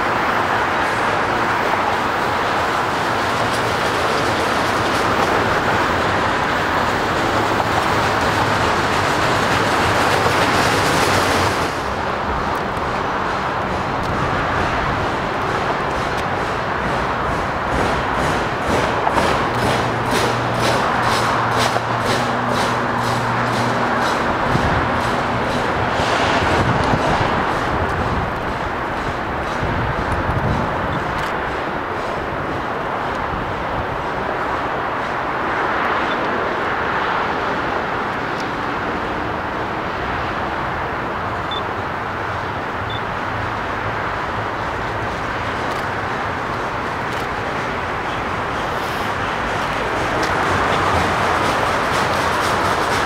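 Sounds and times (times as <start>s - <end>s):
train wheels on track: 0.0s - 53.0s.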